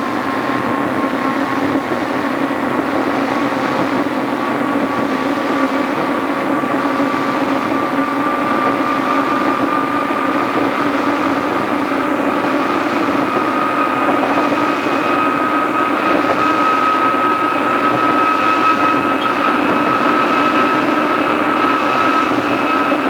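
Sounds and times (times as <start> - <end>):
electric train whine: 0.0 - 23.0
rumbling rail noise: 0.0 - 23.0.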